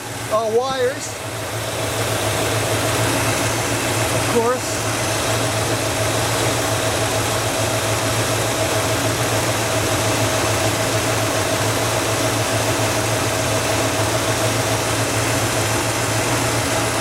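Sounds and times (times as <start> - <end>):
car engine idling: 0.0 - 17.0
steady whining tone: 0.0 - 17.0.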